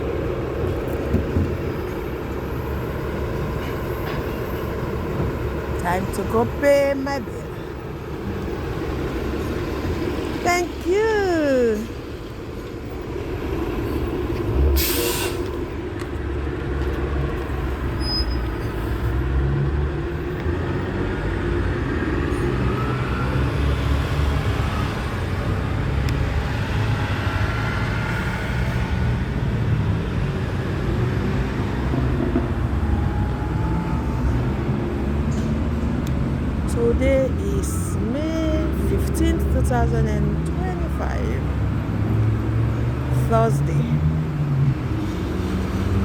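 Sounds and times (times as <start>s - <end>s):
engine and road rumble: 0.0s - 46.0s.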